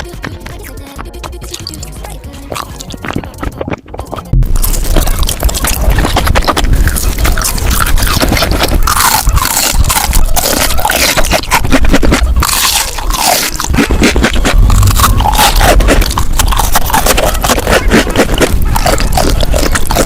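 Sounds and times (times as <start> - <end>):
crunching and biting eating sounds: 0.0 - 20.0.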